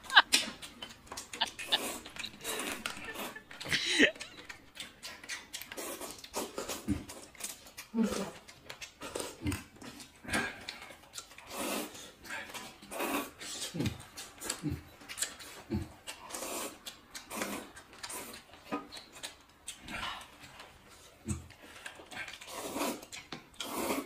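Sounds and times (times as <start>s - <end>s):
chewing: 0.0s - 24.0s
slurping noodles: 1.2s - 4.5s, 5.1s - 18.9s, 19.7s - 24.0s.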